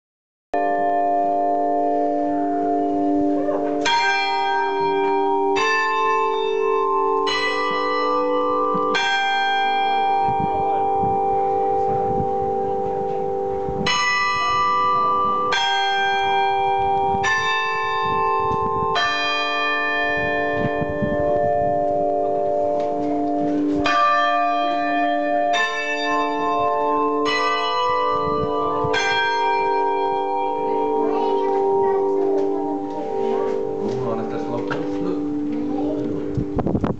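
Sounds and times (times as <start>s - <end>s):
church bells ringing: 0.6s - 36.9s.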